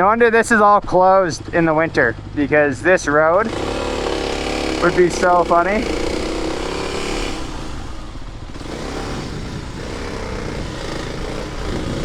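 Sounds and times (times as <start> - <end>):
motorcycle engine rumble: 0.0 - 12.0
riding wind rush: 0.0 - 12.0.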